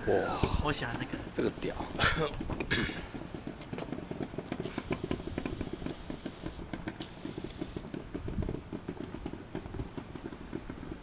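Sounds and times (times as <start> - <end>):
distant fireworks booms and crackles: 0.0 - 11.0.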